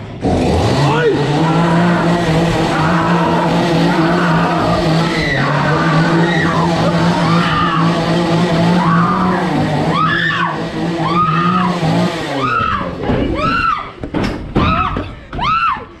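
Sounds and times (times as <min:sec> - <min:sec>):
high-pitched screams: 0:00.9 - 0:14.0.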